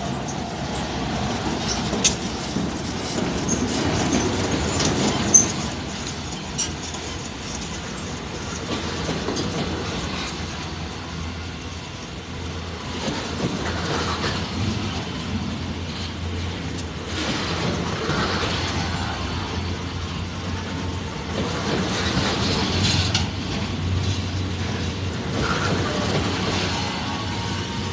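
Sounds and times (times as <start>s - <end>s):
train wheels clacking on rails: 0.0s - 27.9s.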